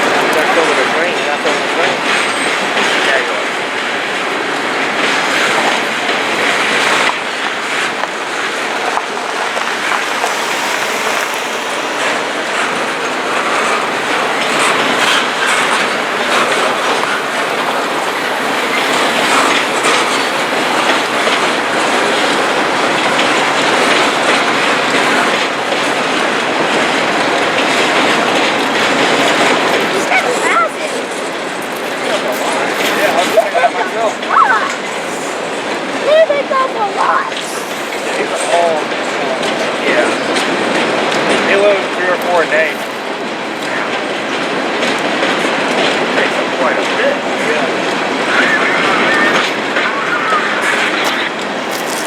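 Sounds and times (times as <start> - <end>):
train rolling past: 0.0 - 52.0
wheels clicking over rail joints: 0.0 - 52.0.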